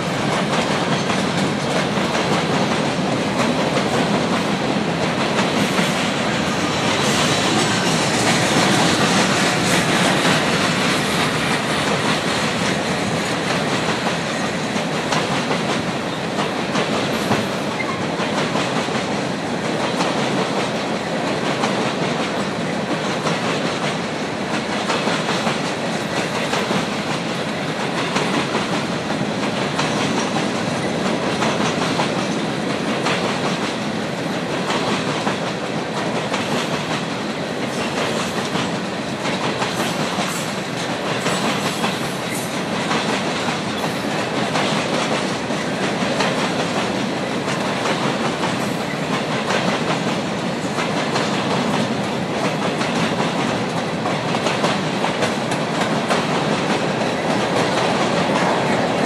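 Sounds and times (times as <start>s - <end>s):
freight train rolling past: 0.0s - 59.0s
steel wheels clacking over track: 0.0s - 59.0s.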